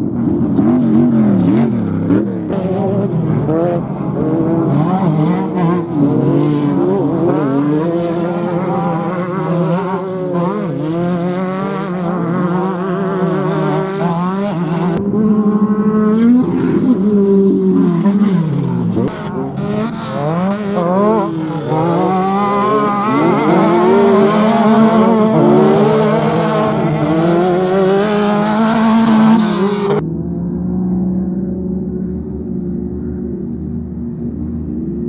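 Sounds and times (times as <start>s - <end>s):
dull steady tone: 0.0s - 35.0s
race vehicle engines revving: 0.0s - 35.0s.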